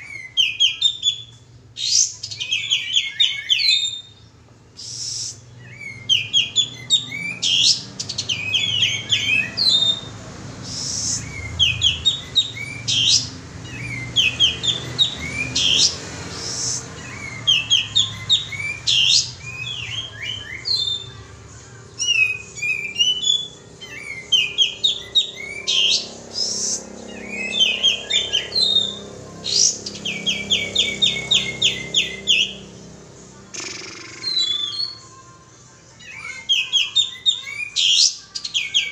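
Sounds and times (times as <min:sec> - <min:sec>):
bird chirping: 0:00.0 - 0:35.4, 0:36.0 - 0:38.9.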